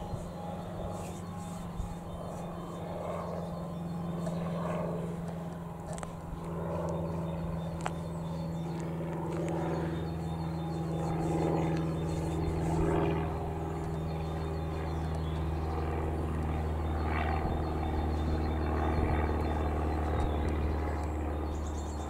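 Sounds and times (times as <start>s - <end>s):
locomotive engine low drone: 0.0s - 22.0s.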